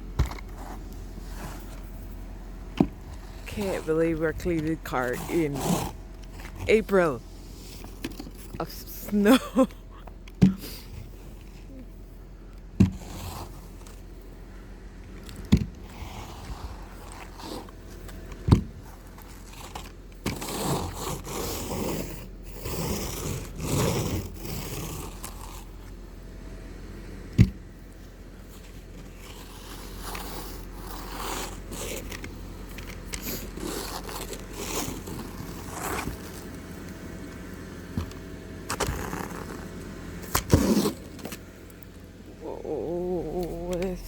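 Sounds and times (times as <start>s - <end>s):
scraping snow off a car: 0.1s - 9.7s, 10.4s - 41.8s.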